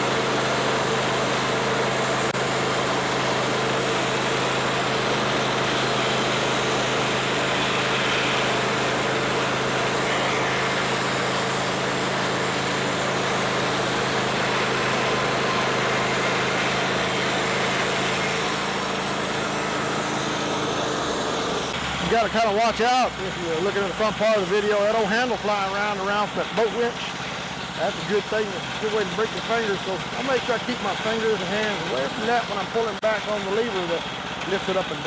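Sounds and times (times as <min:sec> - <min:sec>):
band blade sawing log: 0:00.0 - 0:35.0
small engine humming: 0:00.0 - 0:35.0.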